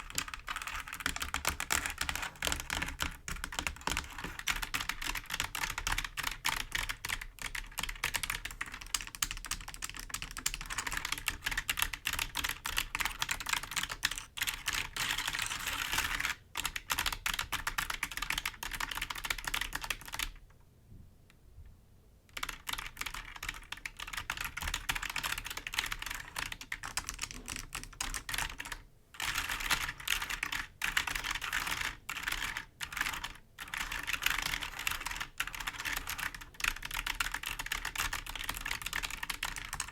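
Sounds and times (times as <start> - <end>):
computer keyboard tapping: 0.0 - 20.4, 22.3 - 39.9.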